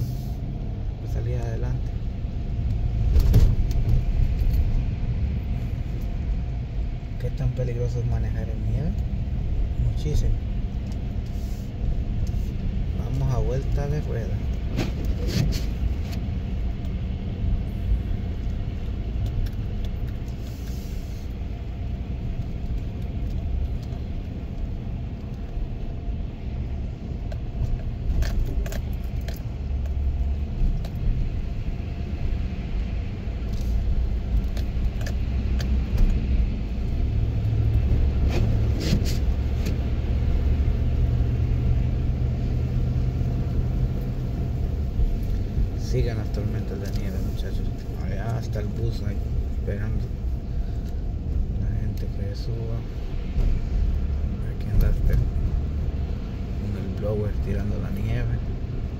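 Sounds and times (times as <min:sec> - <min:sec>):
engine and tyres rumbling: 0:00.0 - 0:58.9.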